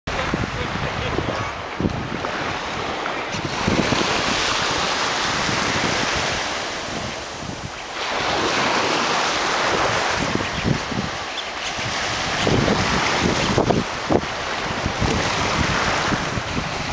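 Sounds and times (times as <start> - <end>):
surf washing onto beach: 0.1 - 16.9
wind buffeting microphone: 0.1 - 16.9.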